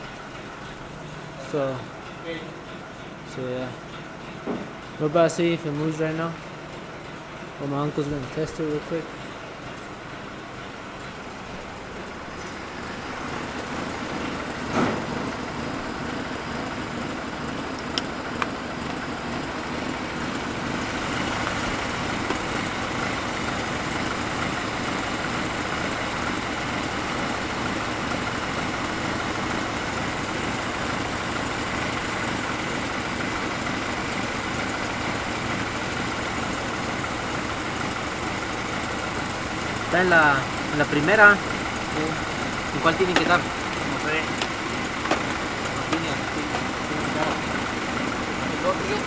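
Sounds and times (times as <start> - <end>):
pickup truck engine idling: 0.0 - 49.0.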